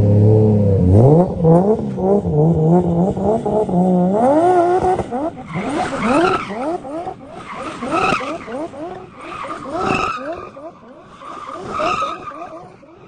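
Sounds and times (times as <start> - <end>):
car engine revving hard: 0.0 - 12.6.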